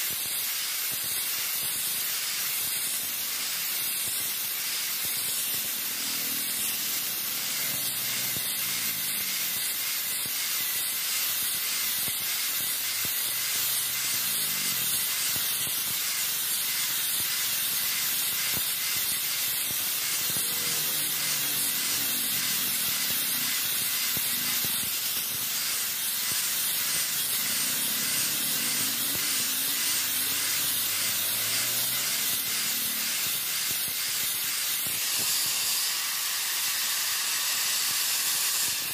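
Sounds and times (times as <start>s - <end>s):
angle grinder grinding metal: 0.0s - 38.9s.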